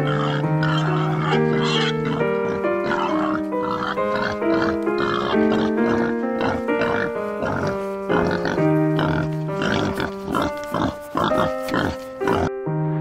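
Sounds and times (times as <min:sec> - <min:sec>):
piglets calling: 0:00.0 - 0:12.6
background music melody: 0:00.0 - 0:13.0.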